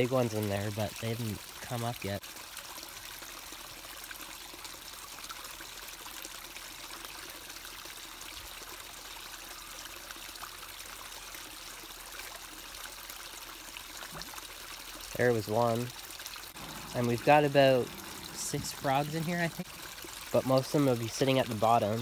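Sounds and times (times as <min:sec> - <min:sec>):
water trickling into pond: 0:00.0 - 0:22.0.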